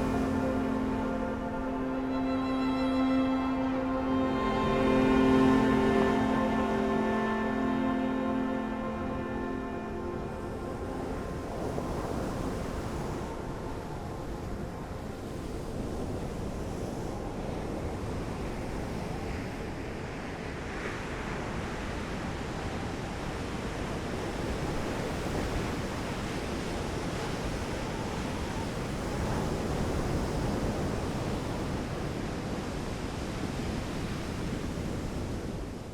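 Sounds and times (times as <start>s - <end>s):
sea surf washing in: 0.0s - 35.9s
wind on microphone: 0.0s - 35.9s.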